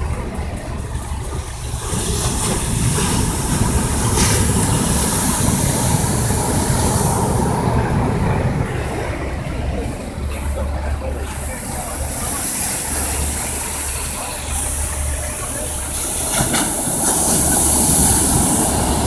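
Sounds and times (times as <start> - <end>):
wind buffeting microphone: 0.0 - 13.8, 15.8 - 19.0
surf breaking on beach: 1.8 - 19.0.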